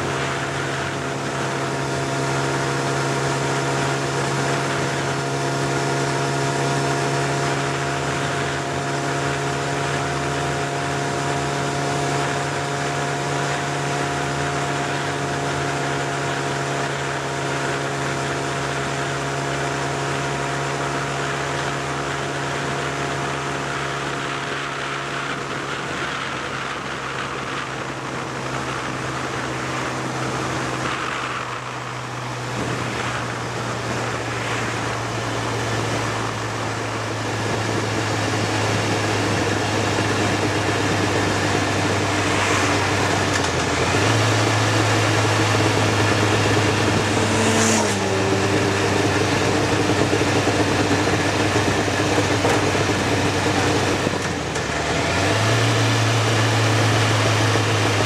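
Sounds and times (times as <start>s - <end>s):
vehicle engine running: 0.0s - 58.0s
wind and road noise: 0.0s - 58.0s.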